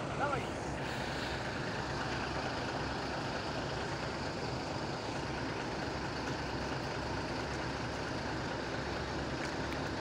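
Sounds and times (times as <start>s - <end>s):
bus diesel engine idling: 0.0s - 10.0s.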